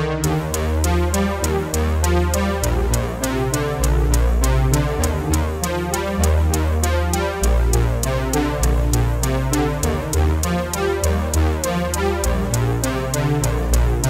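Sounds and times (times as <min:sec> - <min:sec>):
electronic music with synth bass: 0:00.0 - 0:14.0.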